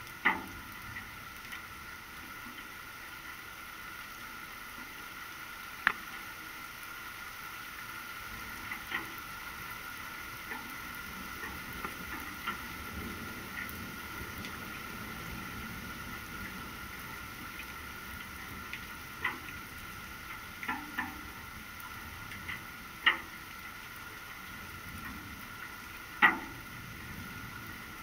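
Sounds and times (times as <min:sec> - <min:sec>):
raindrops tapping a surface: 0:00.0 - 0:28.0
steady rain falling: 0:00.0 - 0:28.0.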